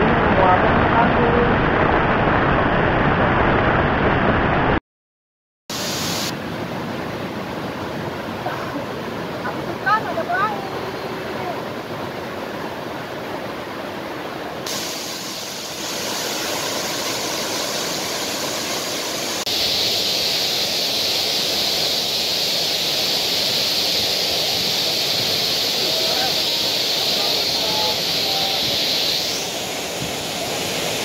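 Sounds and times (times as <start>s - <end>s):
waterfall rushing: 5.7s - 31.0s.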